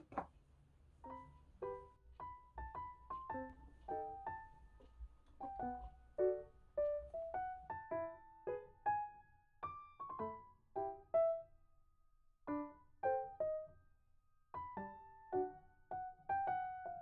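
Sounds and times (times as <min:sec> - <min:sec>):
soft piano music: 0:01.0 - 0:11.7, 0:12.4 - 0:17.0.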